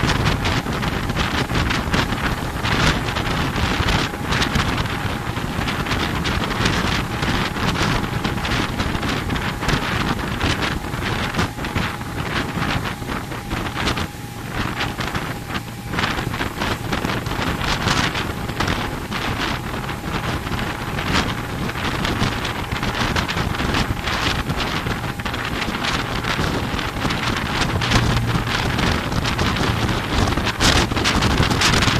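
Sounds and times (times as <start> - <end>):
motorboat engine running: 0.0 - 31.9
rush of churning wake: 0.0 - 31.9
wind buffeting microphone: 0.0 - 31.9.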